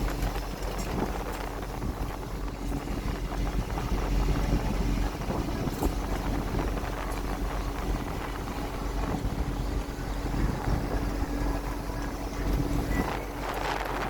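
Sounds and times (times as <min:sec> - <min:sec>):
boat engine rumbling: 0:00.0 - 0:14.0
wind noise on microphone: 0:00.0 - 0:14.0.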